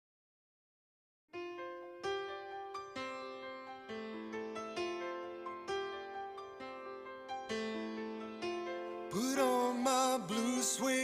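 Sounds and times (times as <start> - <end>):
piano playing chords: 1.4 - 11.0.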